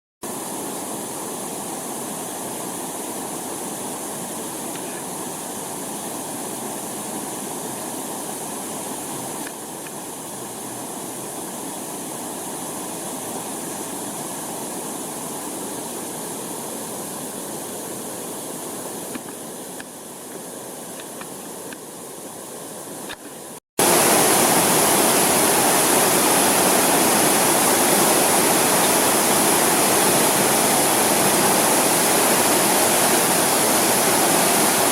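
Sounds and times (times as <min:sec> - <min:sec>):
waterfall rushing and splashing: 0:00.2 - 0:34.9.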